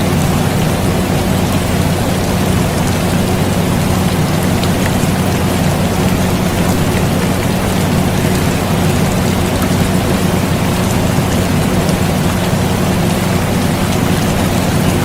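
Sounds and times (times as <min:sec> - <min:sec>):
air conditioner hum: 0:00.0 - 0:15.0
rain hiss: 0:00.0 - 0:15.0.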